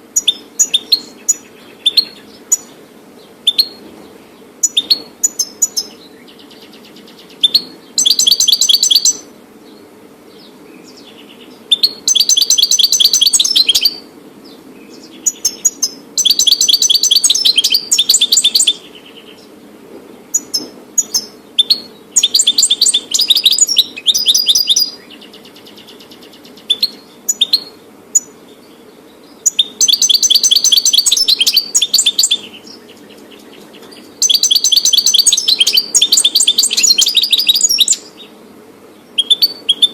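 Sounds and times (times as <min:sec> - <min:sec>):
goldfinch twittering song: 0:00.2 - 0:03.8, 0:04.6 - 0:19.5, 0:20.3 - 0:38.3, 0:39.0 - 0:39.9.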